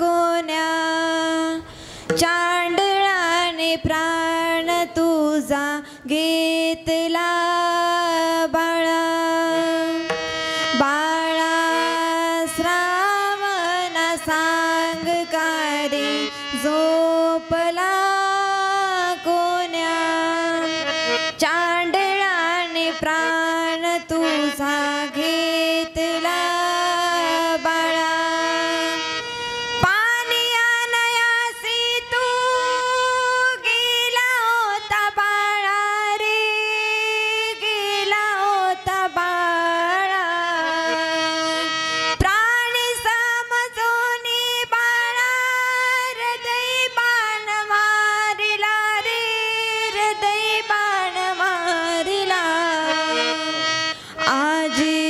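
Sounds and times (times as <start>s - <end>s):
woman singing devotional song: 0.0s - 55.0s.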